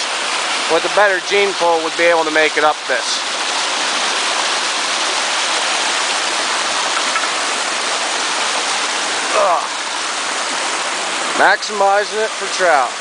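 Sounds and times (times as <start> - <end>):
water splashing over rocks: 0.0 - 13.0.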